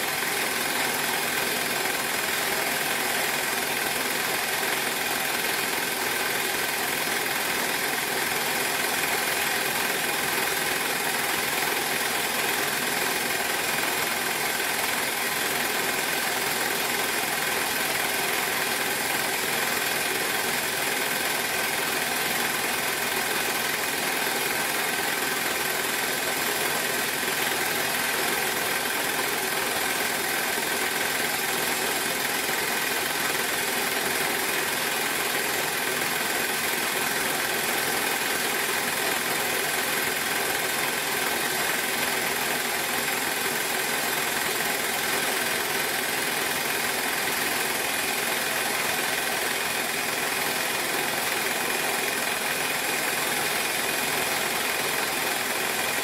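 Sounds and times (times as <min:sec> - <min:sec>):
film projector running: 0:00.0 - 0:56.0.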